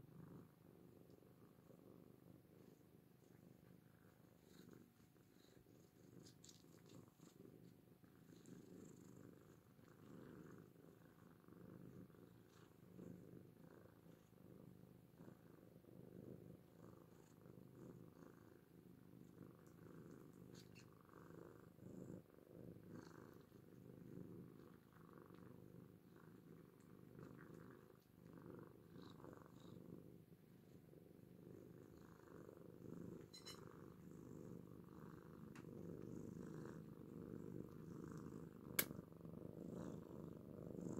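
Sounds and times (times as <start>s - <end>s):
cats purring: 0.0s - 40.9s.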